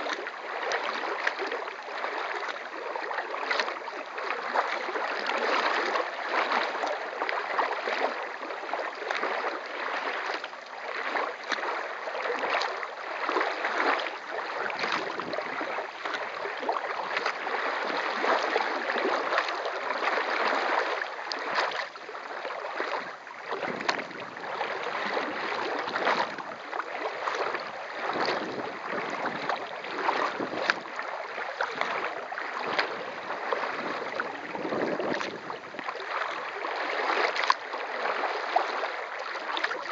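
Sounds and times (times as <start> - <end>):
paddle splashes: 0.0 - 39.9
water rushing along hull: 0.0 - 39.9.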